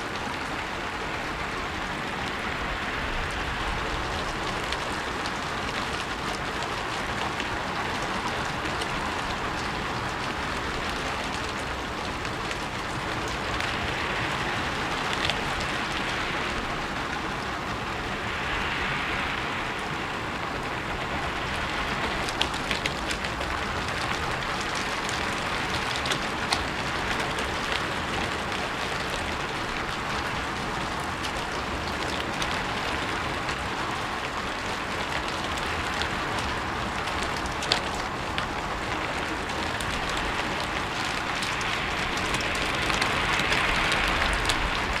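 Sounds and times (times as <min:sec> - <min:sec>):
louder drips and ticks: 0:00.0 - 0:45.0
rain on a rooftop: 0:00.0 - 0:45.0.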